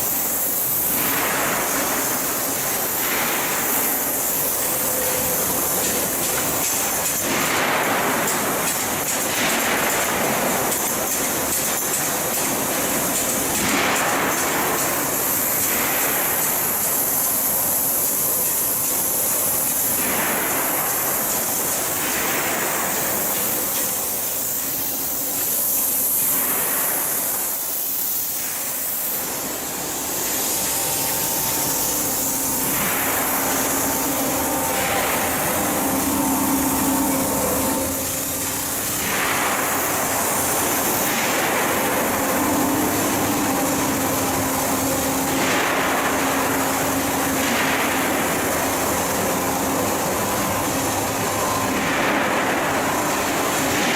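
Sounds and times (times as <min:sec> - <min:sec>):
machinery noise with hiss: 0:00.0 - 0:53.9
steady hum: 0:00.0 - 0:53.9.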